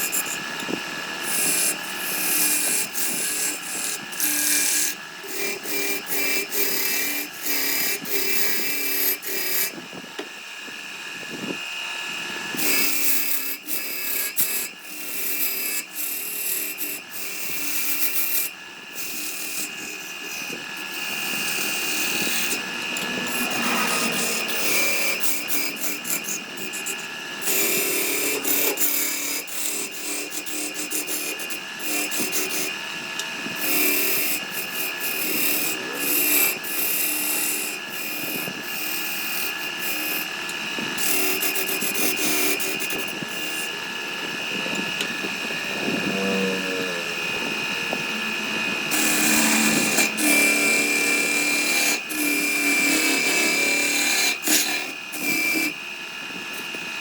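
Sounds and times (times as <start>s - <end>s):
power tool rasping wood: 0.0s - 57.0s.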